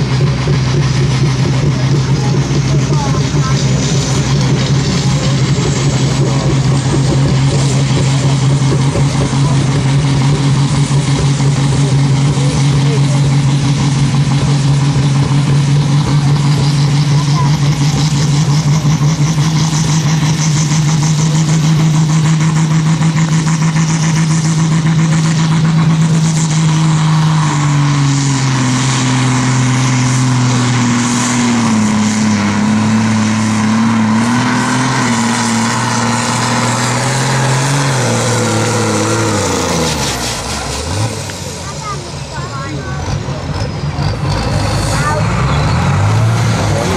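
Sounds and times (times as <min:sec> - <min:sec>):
tractor diesel engine labouring: 0:00.0 - 0:46.9.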